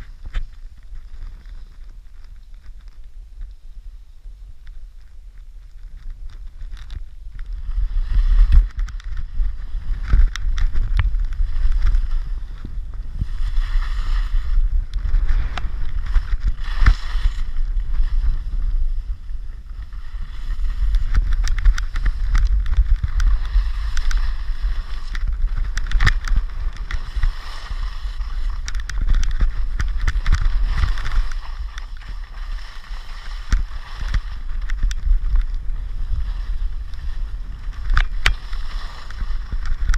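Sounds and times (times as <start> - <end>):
skis carving packed snow: 0.0 - 39.9
wind buffeting microphone: 0.0 - 39.9.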